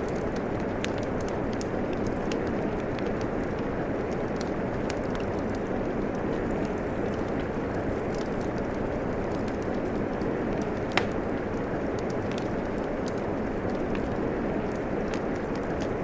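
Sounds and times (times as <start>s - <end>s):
steady rain: 0.0s - 16.0s
wood fire crackling: 0.0s - 16.0s.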